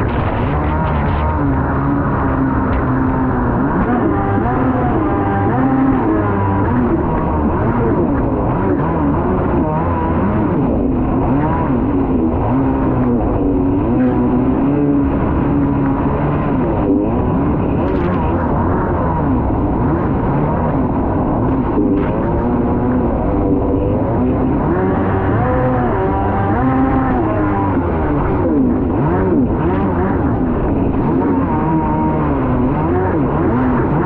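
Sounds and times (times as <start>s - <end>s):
jet ski engine running hard: 0.0s - 34.0s
wind noise: 0.0s - 34.0s.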